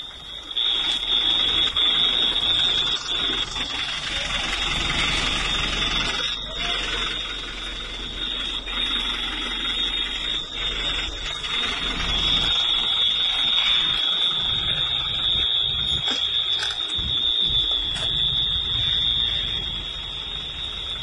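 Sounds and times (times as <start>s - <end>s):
high-pitched electronic alarm tone: 0.0s - 21.0s
noisy background: 0.0s - 21.0s.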